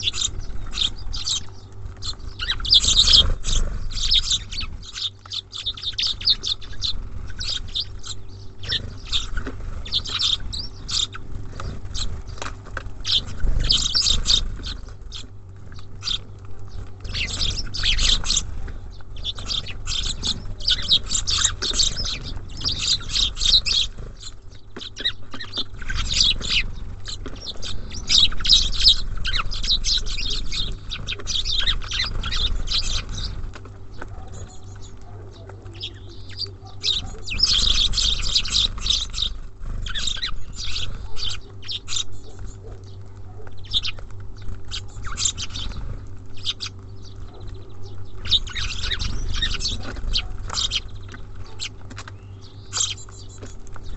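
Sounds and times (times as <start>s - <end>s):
small songbirds chirping: 0.0s - 53.9s.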